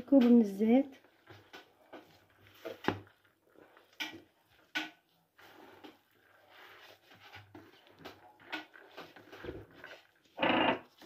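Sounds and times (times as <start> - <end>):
hands rustling dough mixture: 0.0 - 11.0.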